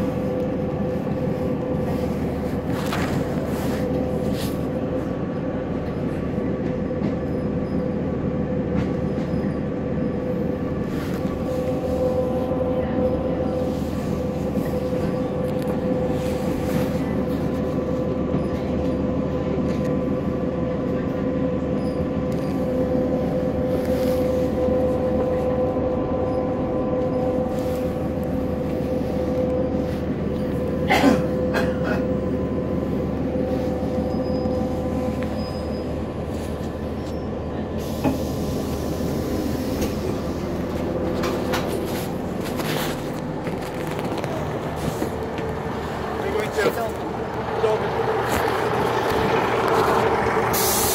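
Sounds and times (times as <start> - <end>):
train clatter: 0.0 - 50.9
train rumble with whine: 0.0 - 50.9.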